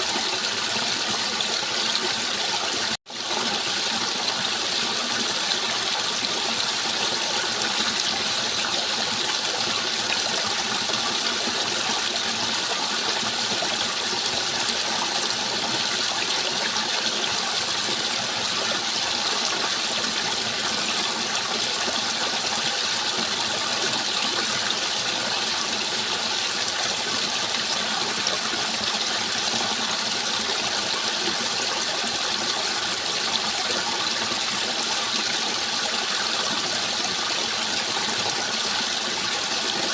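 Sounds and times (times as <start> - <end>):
rushing and splashing water: 0.0 - 39.9.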